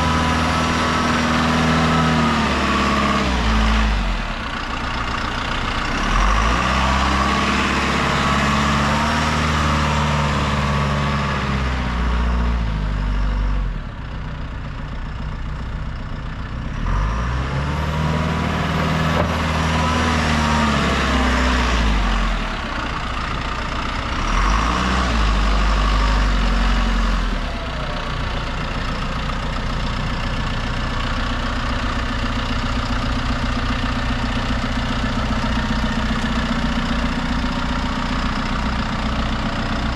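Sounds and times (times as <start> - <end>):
diesel engine revving and idling: 0.0 - 39.9.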